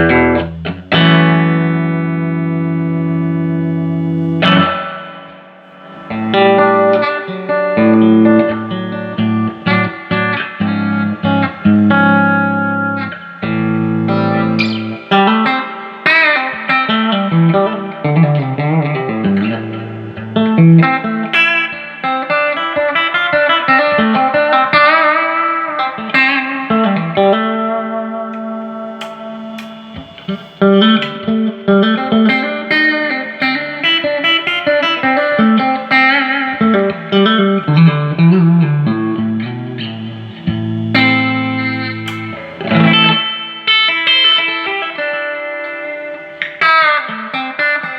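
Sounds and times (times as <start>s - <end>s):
electric guitar playing: 0.0s - 47.9s.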